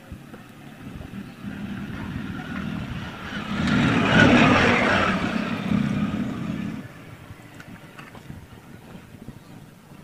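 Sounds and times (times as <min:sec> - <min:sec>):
motor vehicle passing: 0:00.2 - 0:08.8.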